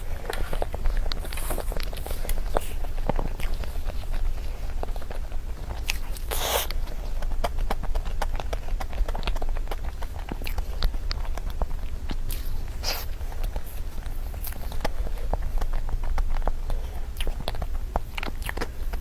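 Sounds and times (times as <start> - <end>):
steady low hum: 0.0 - 19.0
wet chewing mouth sounds: 0.0 - 19.0.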